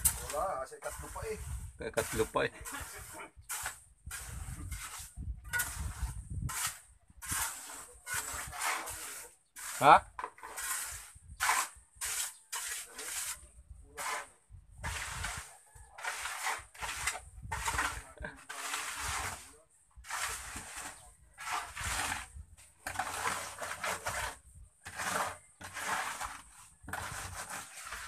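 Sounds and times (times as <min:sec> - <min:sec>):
scraping on cement floor: 0:00.0 - 0:28.0.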